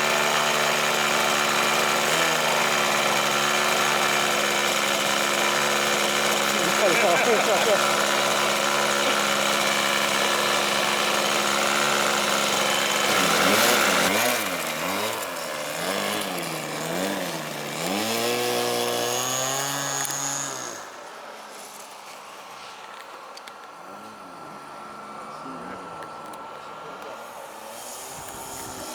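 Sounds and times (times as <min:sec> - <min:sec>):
model airplane engine buzzing: 0:00.0 - 0:21.8, 0:23.9 - 0:28.9.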